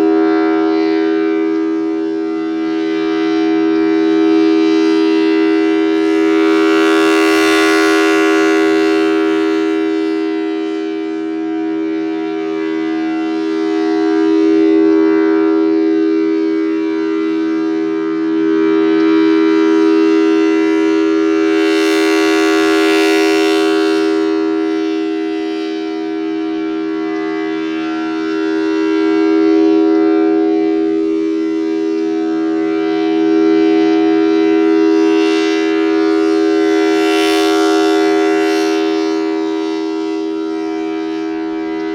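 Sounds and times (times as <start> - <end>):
warning siren two-note chord: 0.0 - 41.9.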